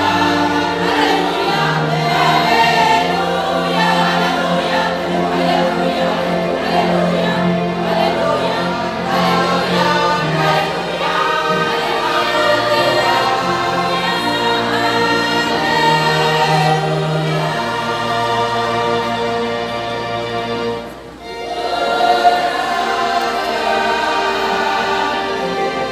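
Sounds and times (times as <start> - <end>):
choir singing a hymn: 0.0 - 25.9.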